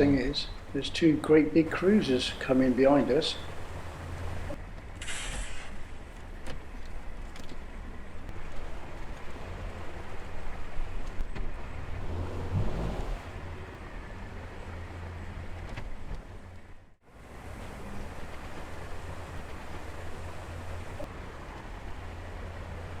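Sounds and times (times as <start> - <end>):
boat engine rumbling: 0.0 - 5.0, 5.8 - 23.0.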